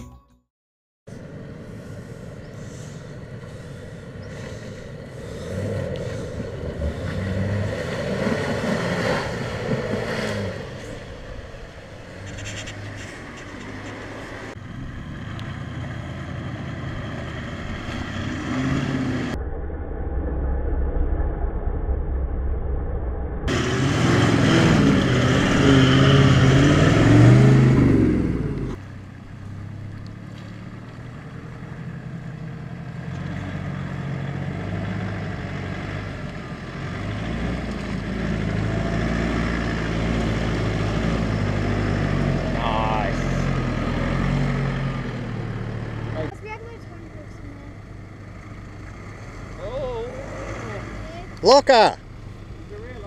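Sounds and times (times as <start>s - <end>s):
off-road engine revving: 1.1s - 19.4s, 23.5s - 53.0s.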